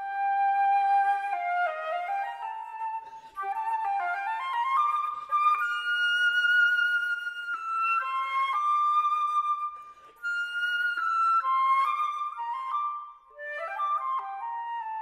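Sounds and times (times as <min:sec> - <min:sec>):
solo flute melody: 0:00.0 - 0:15.0.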